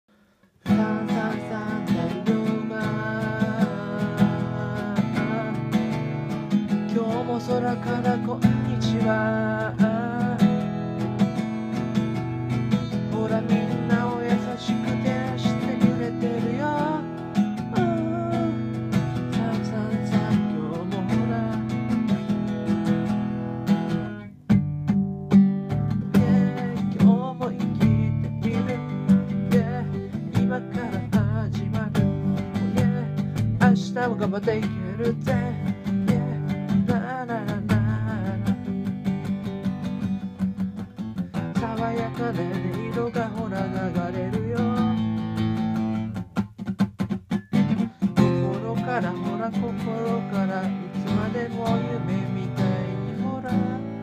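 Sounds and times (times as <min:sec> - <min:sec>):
acoustic guitar strumming chords: 0:00.1 - 0:54.0.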